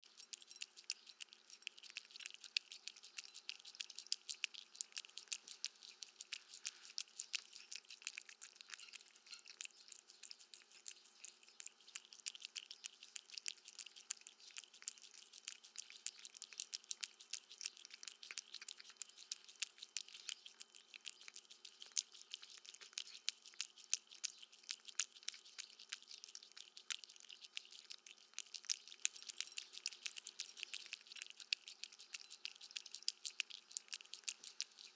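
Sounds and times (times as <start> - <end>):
cat crunching dry food: 0.0 - 34.9.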